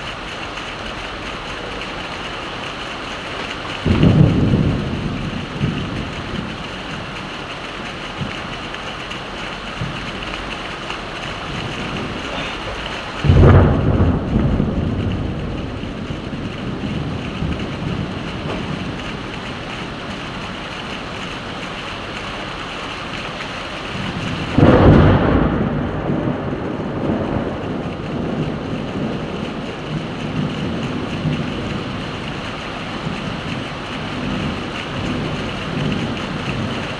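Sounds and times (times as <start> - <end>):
heavy rain: 0.0 - 36.9
thunder claps: 0.0 - 36.9.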